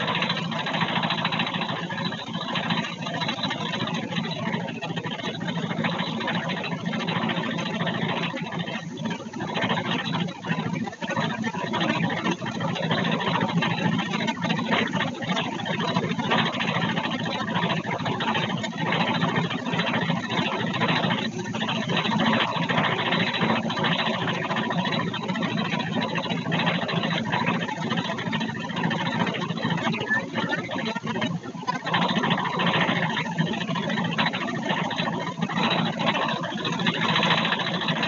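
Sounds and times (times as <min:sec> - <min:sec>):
thresher drum humming and rattling: 0:00.0 - 0:38.0.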